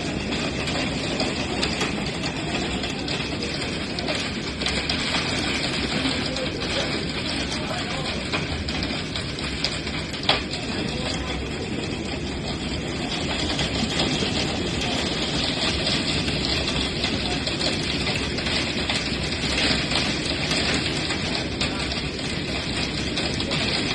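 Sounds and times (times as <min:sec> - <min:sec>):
hail and heavy rain pelting: 0:00.0 - 0:23.9.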